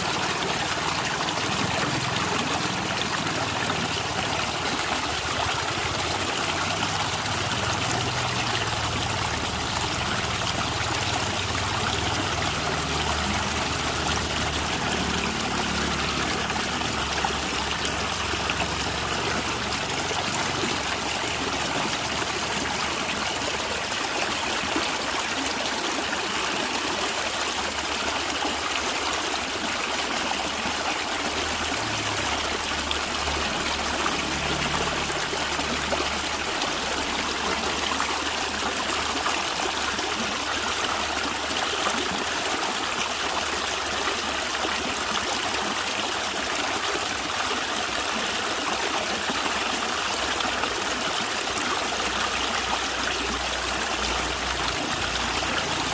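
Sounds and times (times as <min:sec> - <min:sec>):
stream water gurgling: 0:00.0 - 0:55.9.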